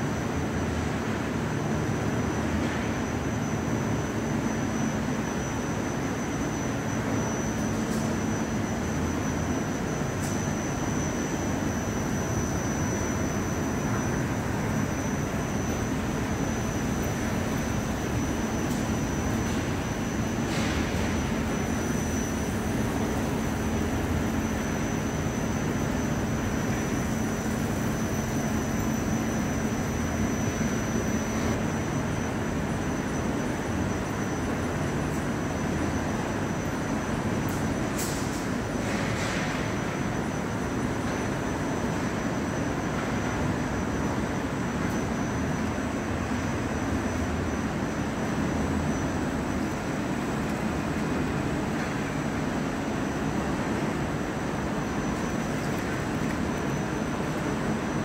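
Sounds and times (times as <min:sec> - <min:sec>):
factory machinery drone: 0:00.0 - 0:58.0.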